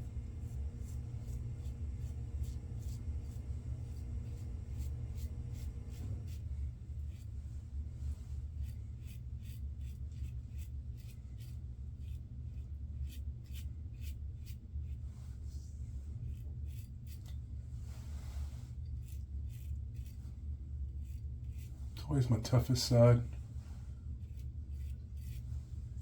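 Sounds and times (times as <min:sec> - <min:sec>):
low hum: 0:00.0 - 0:26.0
razor scraping stubble: 0:00.1 - 0:07.4, 0:08.5 - 0:15.0, 0:16.2 - 0:17.4, 0:18.0 - 0:22.8, 0:24.1 - 0:26.0.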